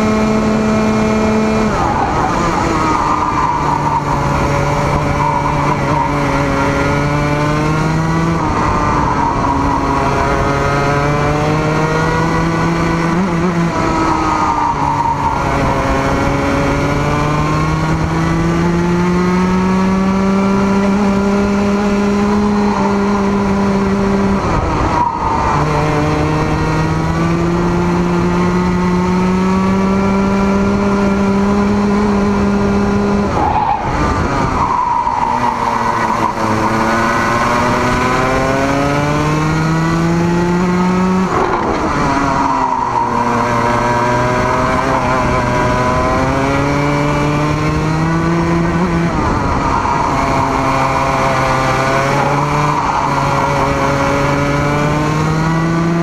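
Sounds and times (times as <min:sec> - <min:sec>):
racing kart engine: 0:00.0 - 0:56.0.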